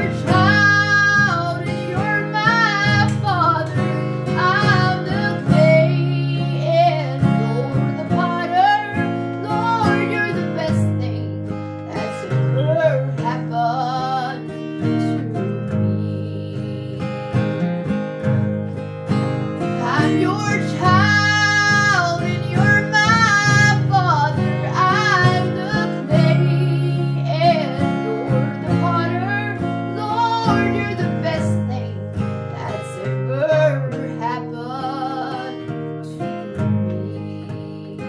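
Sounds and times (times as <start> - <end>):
woman singing gospel: 0.0 - 17.6, 19.8 - 38.0
strummed acoustic guitar: 0.0 - 38.0.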